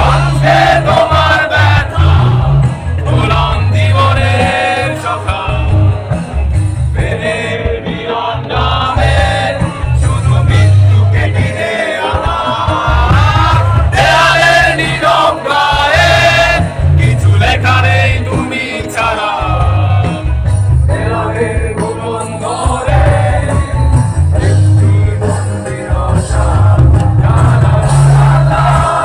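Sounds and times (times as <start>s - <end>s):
drums: 0.0s - 29.0s
heavy bass: 0.0s - 29.0s.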